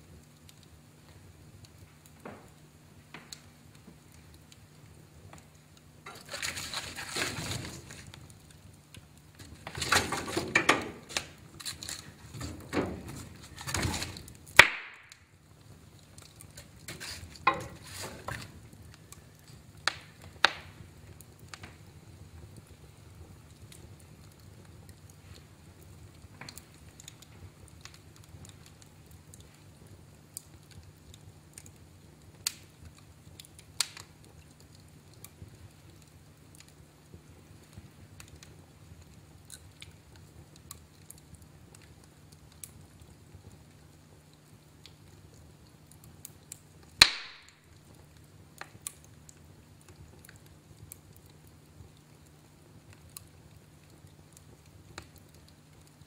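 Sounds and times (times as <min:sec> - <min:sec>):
fire hissing flare-ups: 0:00.0 - 0:56.0
wood fire crackling and popping: 0:00.0 - 0:56.0.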